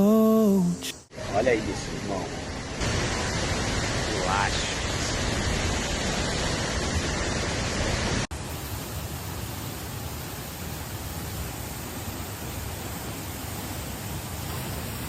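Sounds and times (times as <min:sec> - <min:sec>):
waterfall rushing: 0:02.3 - 0:15.0.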